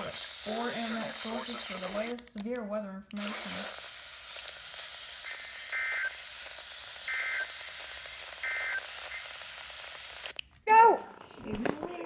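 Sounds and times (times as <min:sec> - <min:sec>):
radio receiver hiss: 0:00.0 - 0:10.3.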